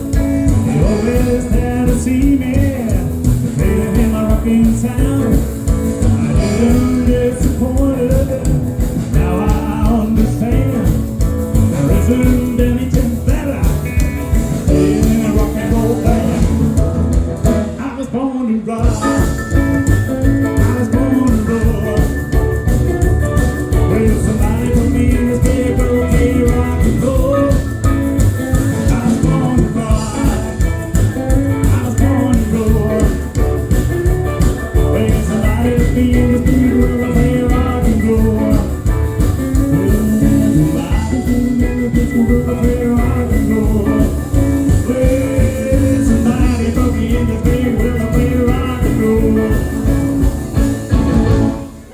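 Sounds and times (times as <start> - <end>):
rock band playing: 0.0 - 18.0, 18.8 - 51.9.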